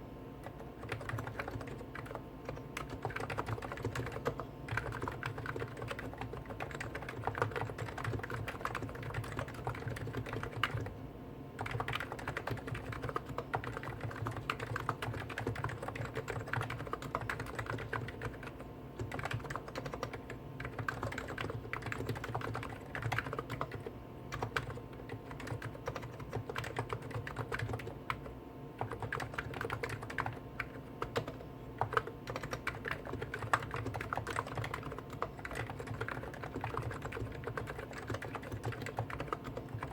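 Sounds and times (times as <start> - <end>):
keyboard typing: 0.4 - 10.9, 11.6 - 39.9.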